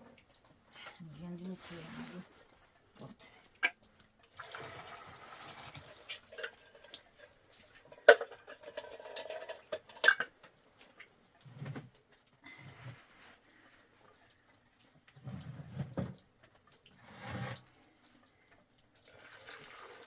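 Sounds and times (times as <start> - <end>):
rustling and handling noise: 0.0 - 20.0.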